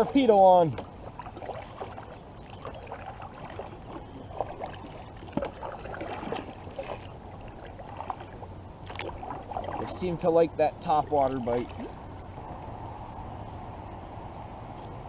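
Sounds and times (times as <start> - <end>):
water splashes and drips: 0.0 - 12.8
paddle strokes through water: 0.0 - 13.1.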